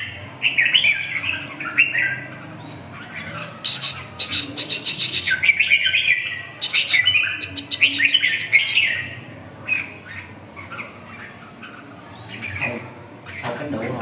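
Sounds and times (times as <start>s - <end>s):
birds chirping and warbling: 0.0s - 14.0s.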